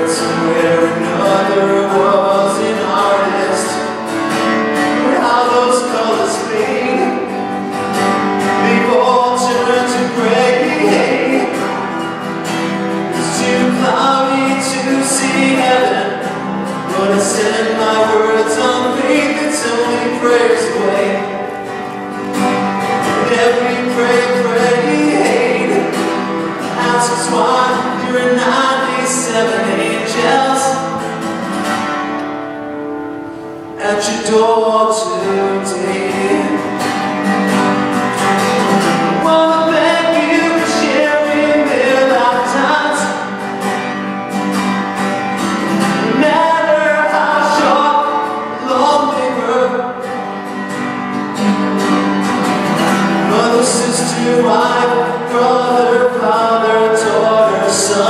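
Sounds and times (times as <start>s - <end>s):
man singing: 0.0s - 21.8s, 22.5s - 31.3s, 33.7s - 43.5s, 45.4s - 50.3s, 52.6s - 58.0s
acoustic guitar: 0.0s - 58.0s.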